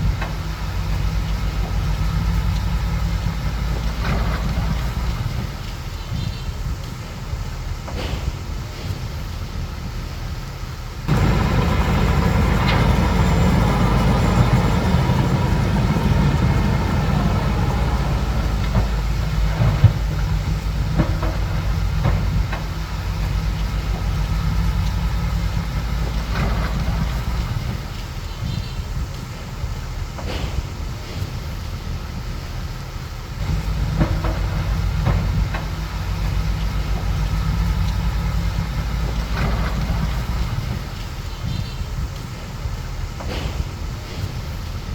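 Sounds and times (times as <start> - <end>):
bulldozer diesel engine: 0.0 - 44.9
steel tracks clattering: 0.0 - 44.9.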